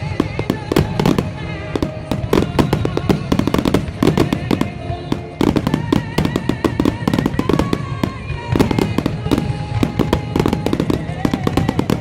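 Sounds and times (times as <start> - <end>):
fireworks bangs and crackles: 0.0 - 12.0
loud music with melodic tones: 0.0 - 12.0.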